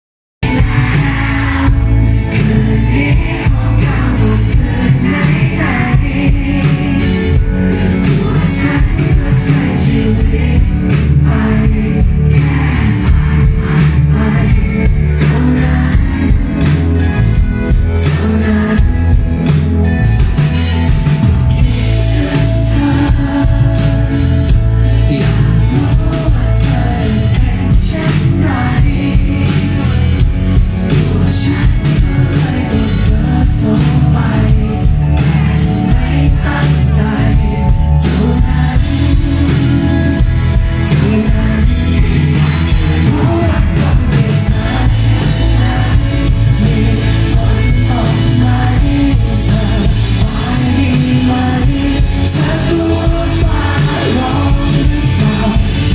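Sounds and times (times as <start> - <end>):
male singing: 0.4 - 16.8, 18.0 - 19.2, 21.6 - 24.2, 24.9 - 55.9
pop rock band playing: 0.4 - 55.9.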